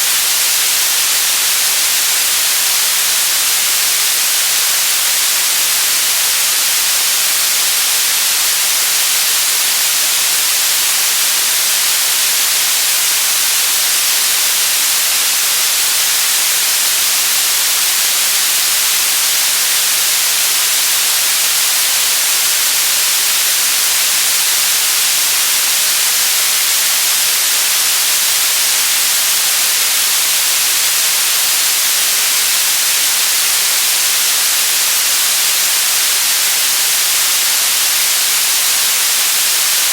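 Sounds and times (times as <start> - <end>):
electronic static hiss: 0.0 - 39.9.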